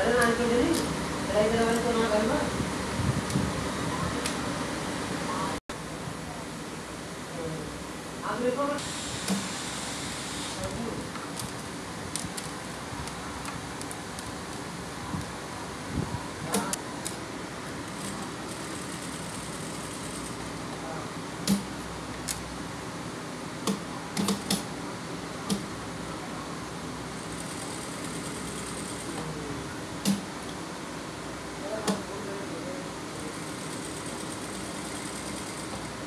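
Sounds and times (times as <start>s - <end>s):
fan-like mechanical hum: 0.0s - 36.0s.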